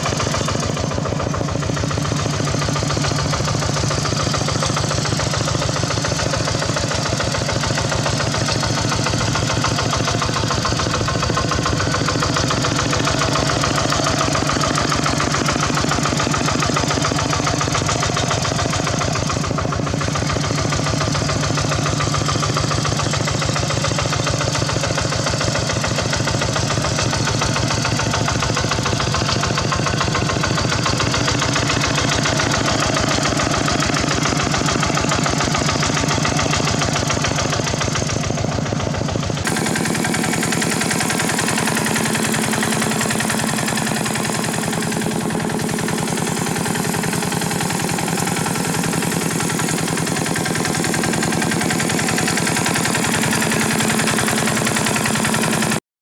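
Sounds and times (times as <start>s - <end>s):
tractor engine running: 0.0s - 55.8s.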